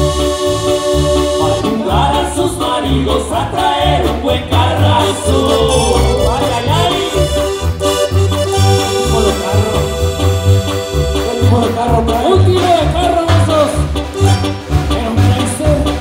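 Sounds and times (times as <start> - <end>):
accordion-like keyboard melody: 0.0 - 16.0
pulsing bass line: 0.0 - 16.0.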